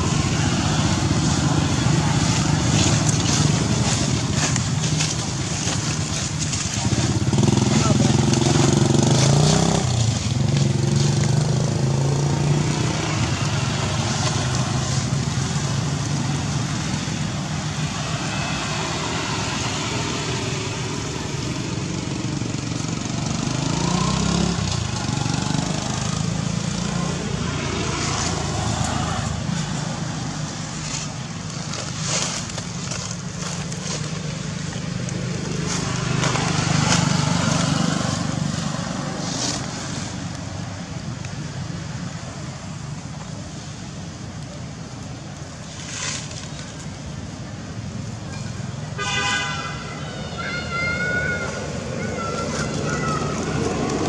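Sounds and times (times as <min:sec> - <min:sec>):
dry leaves rustling: 0:00.0 - 0:43.8, 0:44.4 - 0:54.0
vehicle engine humming: 0:00.0 - 0:54.0.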